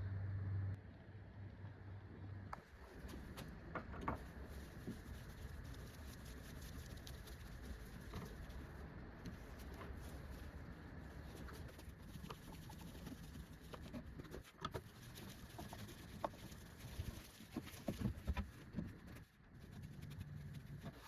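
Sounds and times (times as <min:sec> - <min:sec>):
low steady hum: 0:00.0 - 0:21.0
faint clicks and knocks: 0:02.5 - 0:21.0.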